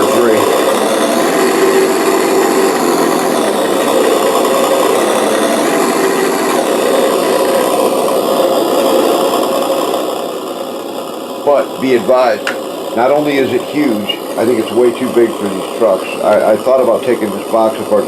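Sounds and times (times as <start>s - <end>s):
simulated diesel engine from speaker: 0.0s - 18.0s.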